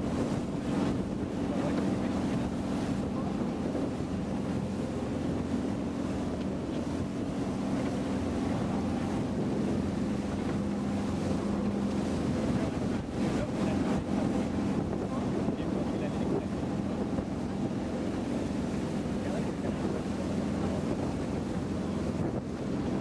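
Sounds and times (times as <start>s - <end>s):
boat engine drone: 0.0s - 23.0s
water rushing past hull: 0.0s - 23.0s
wind on microphone: 0.0s - 23.0s.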